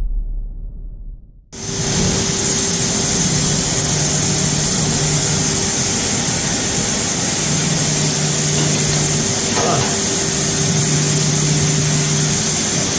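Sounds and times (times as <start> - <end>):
machining center hum and hiss: 1.6 - 12.9.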